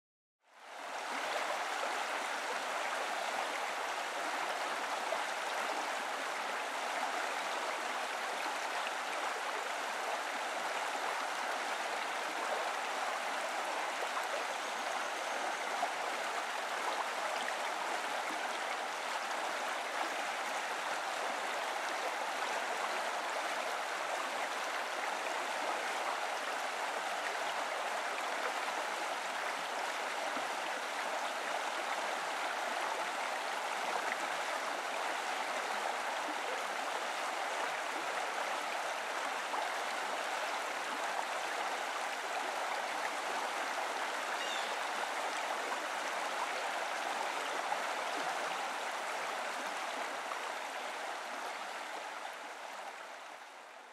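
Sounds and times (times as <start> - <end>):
small waterfall rushing: 0.5 - 53.9.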